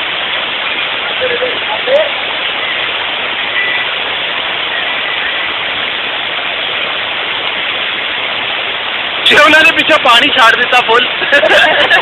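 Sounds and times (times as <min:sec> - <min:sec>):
water rushing through gates: 0:00.0 - 0:12.0.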